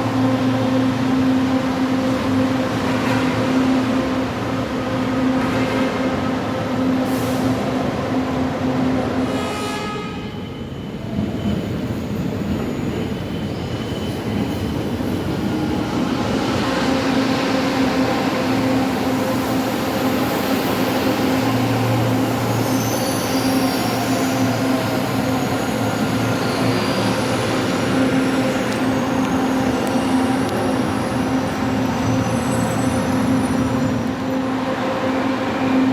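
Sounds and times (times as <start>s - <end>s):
rail and wheel noise: 0.0s - 35.9s.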